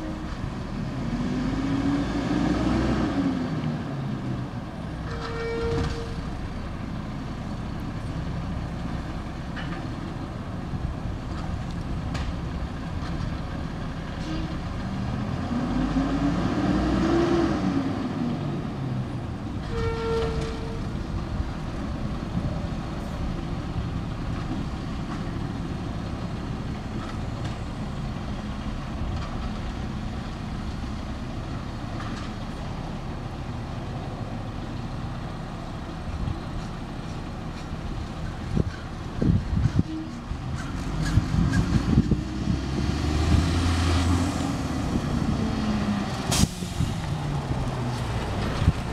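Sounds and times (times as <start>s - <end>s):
diesel engine revving: 0.0s - 5.0s, 5.9s - 19.8s, 20.4s - 48.9s.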